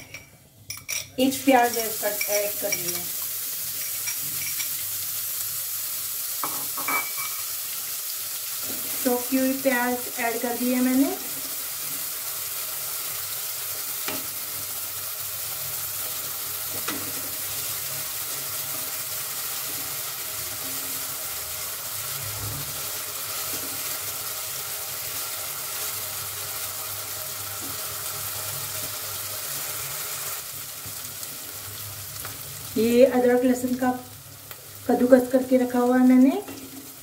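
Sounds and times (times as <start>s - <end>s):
onion sizzling in oil: 0.9s - 37.0s.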